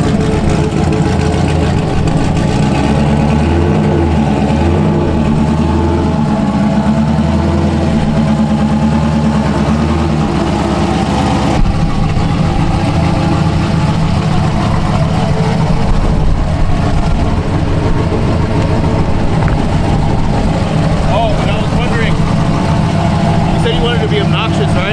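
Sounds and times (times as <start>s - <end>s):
car engine idling loudly: 0.0s - 24.9s.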